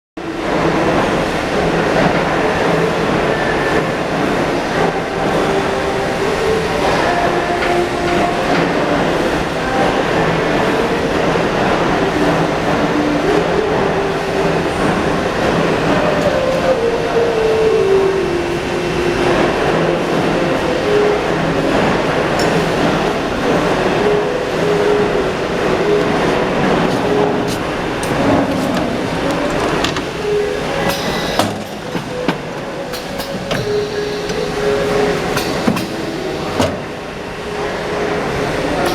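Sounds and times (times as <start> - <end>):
lathe machine running: 0.2 - 38.9.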